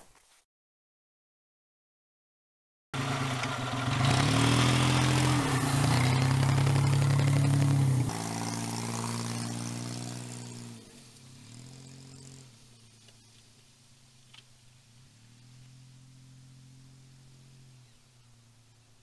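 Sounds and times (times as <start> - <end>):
small car engine running: 3.0 - 18.9.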